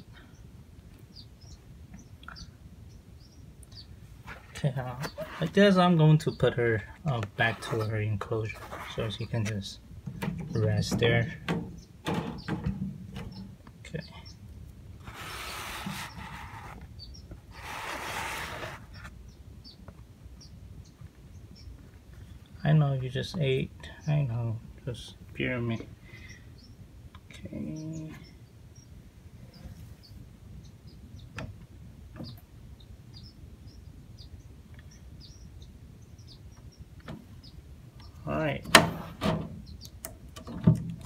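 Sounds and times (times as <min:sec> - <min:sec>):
baby birds chirping: 0:00.0 - 0:41.0.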